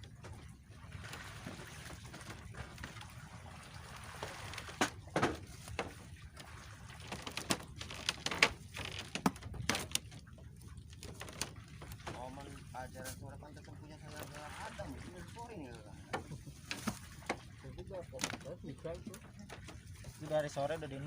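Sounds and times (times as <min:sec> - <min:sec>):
sea water sloshing: 0:00.0 - 0:21.0.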